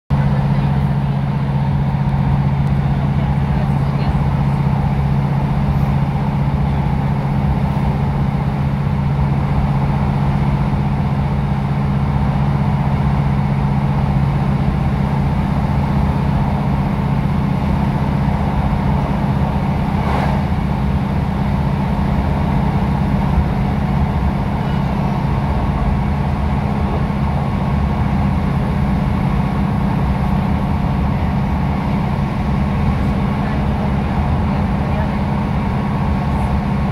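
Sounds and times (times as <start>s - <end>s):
train interior drone: 0.1s - 36.9s.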